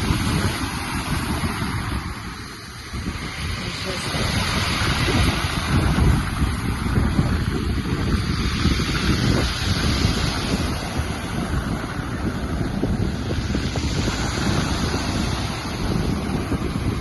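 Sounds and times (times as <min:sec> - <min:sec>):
sea waves breaking: 0:00.0 - 0:17.0
wind buffeting microphone: 0:00.0 - 0:17.0.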